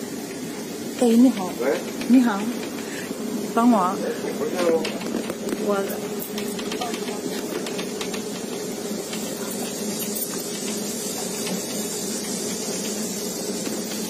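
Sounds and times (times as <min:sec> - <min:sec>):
boat machinery hum and hiss: 0:00.0 - 0:14.0.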